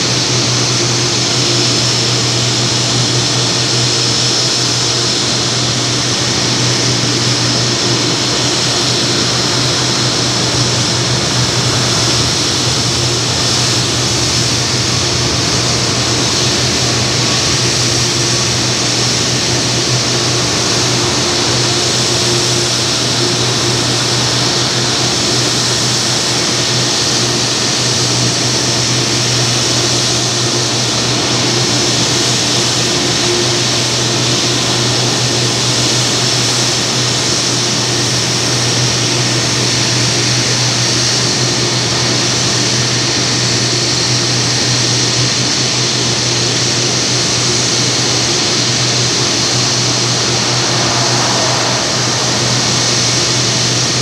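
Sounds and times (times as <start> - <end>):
jet aircraft hum: 0.0 - 38.4, 45.8 - 54.0
de-icing equipment hiss: 0.0 - 54.0.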